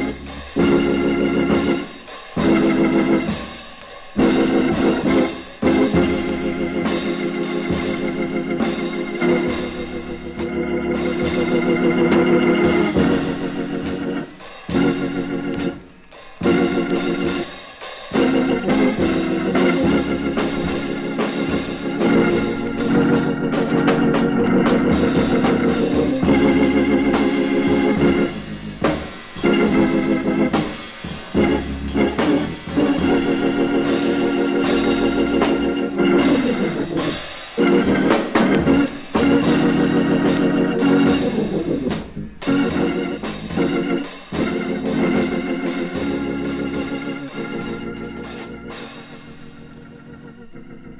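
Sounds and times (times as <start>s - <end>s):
drum kit: 0.0s - 50.9s
organ playing jazz chords: 0.0s - 50.9s.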